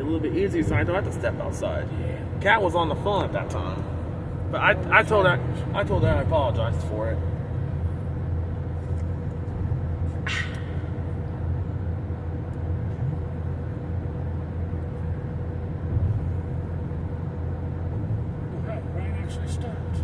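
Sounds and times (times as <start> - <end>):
car road and engine rumble: 0.0 - 20.0
faint steady hum: 0.0 - 20.0.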